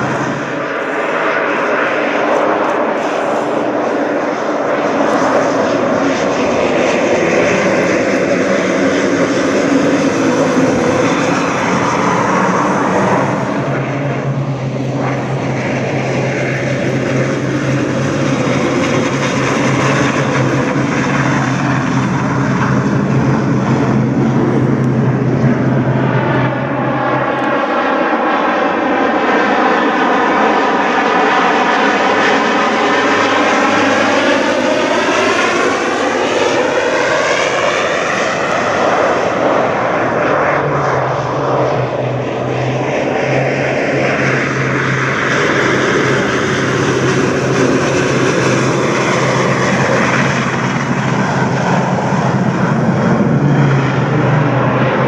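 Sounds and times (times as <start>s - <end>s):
propeller plane flying past: 0.0s - 55.0s.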